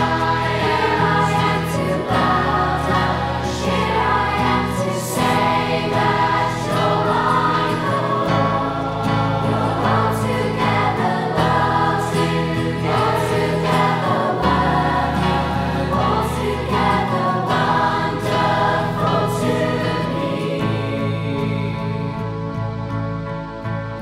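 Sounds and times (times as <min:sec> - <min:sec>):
choir singing church music: 0:00.0 - 0:24.0
instrumental accompaniment: 0:00.0 - 0:24.0.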